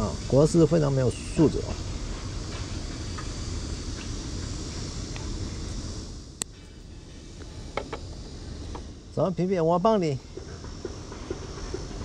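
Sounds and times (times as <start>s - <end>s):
faint insects chirring: 0.0s - 12.0s.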